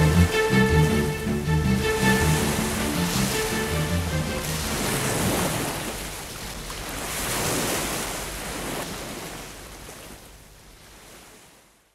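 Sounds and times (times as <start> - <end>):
ocean waves washing in: 0.0 - 11.8.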